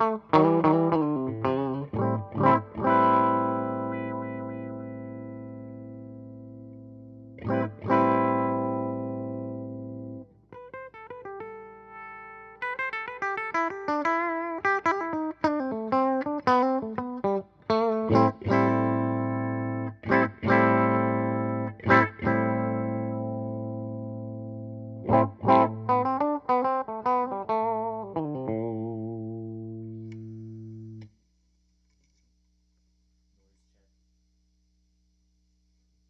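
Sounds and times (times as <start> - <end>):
electric string instrument played: 0.0 - 31.1.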